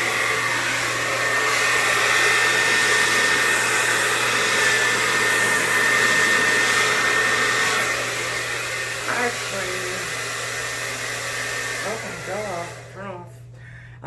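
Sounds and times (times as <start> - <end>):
hair dryer running: 0.0 - 13.6.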